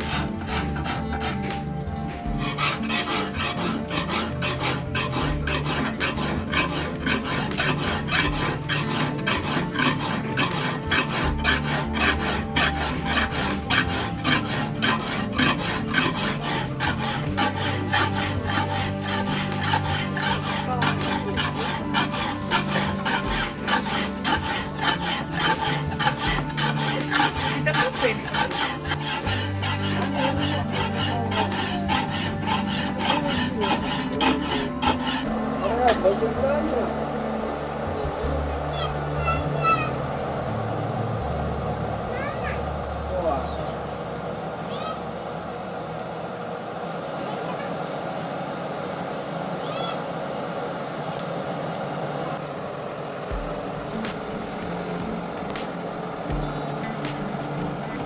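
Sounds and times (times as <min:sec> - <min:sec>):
hand file rasping on steel: 0:00.0 - 0:58.0.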